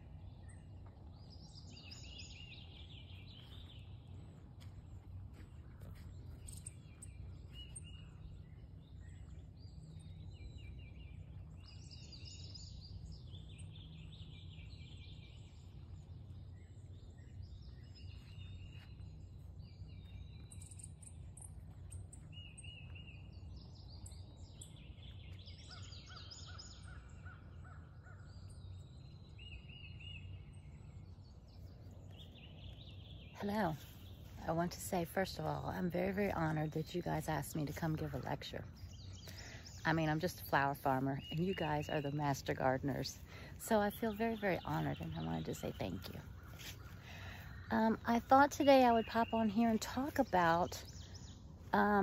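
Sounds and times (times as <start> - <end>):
songbirds chirping and trilling: 0.0 - 52.0
steady low rumble: 0.0 - 52.0.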